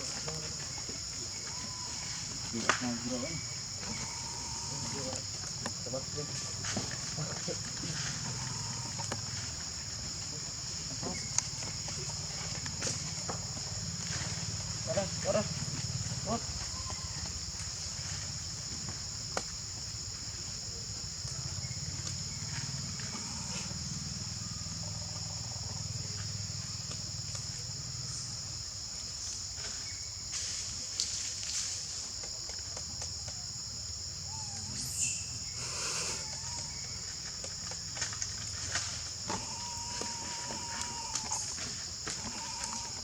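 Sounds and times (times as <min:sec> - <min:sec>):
insects shrilling: 0:00.0 - 0:43.0.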